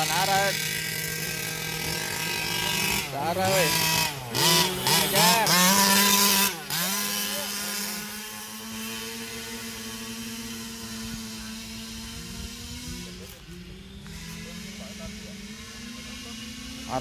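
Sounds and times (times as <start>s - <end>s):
small two-stroke engine revving: 0.0s - 17.0s.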